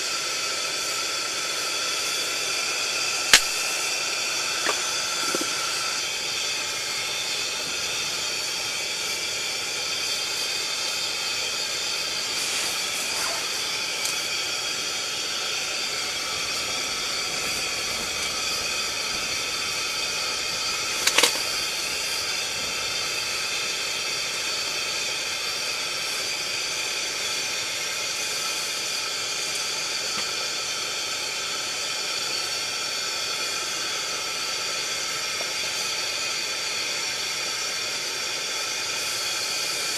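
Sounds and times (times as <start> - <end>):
pressure lantern hissing: 0.0 - 39.9.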